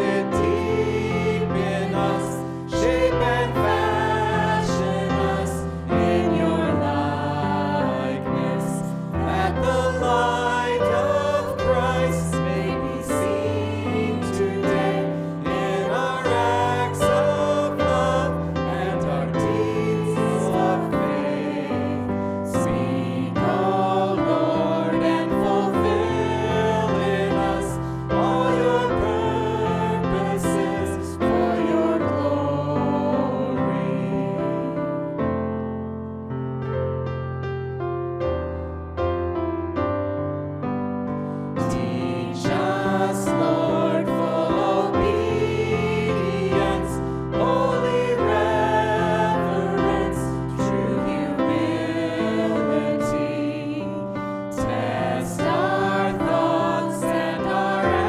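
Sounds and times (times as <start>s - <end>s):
group singing worship song: 0.0s - 35.2s, 41.3s - 58.0s.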